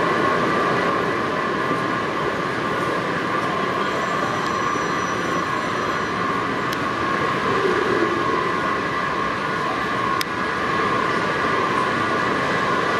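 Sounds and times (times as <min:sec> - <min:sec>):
train high-pitched whine: 0:00.0 - 0:12.9.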